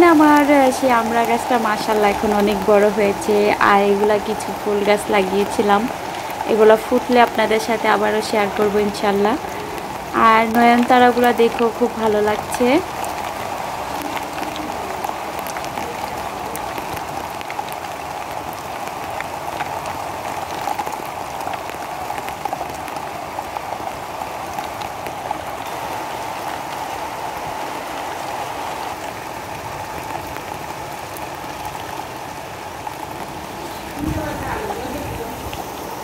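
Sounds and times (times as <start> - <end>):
raindrops ticking close by: 0.0 - 36.0
steady rainfall: 0.0 - 36.0.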